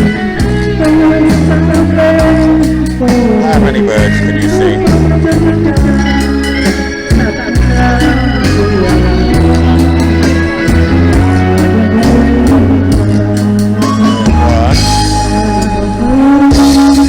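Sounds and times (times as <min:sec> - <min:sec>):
karaoke backing music: 0:00.0 - 0:17.0.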